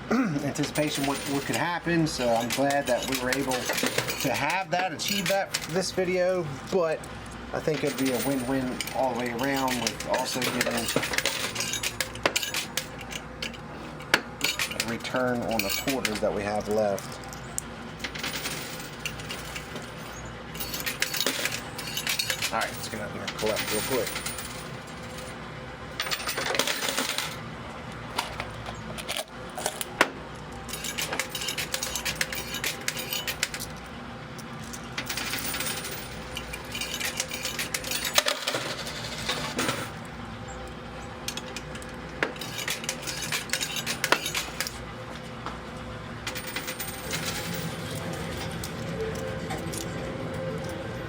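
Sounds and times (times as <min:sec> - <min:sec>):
faint machine hum: 0:00.0 - 0:51.0
coins clinking: 0:00.1 - 0:27.4, 0:28.1 - 0:40.0, 0:41.3 - 0:44.8, 0:46.2 - 0:51.0.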